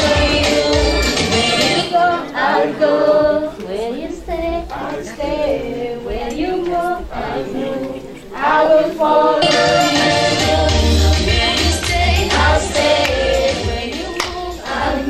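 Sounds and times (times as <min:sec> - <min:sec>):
church choir singing: 0:00.0 - 0:15.0.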